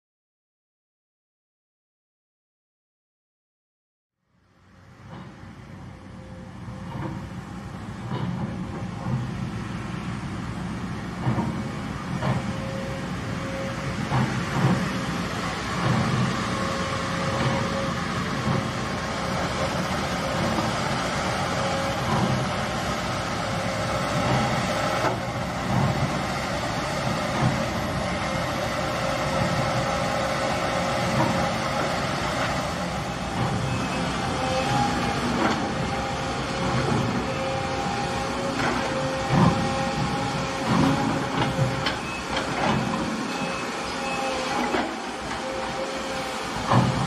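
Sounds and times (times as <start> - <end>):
excavator diesel engine running: 4.4 - 47.0.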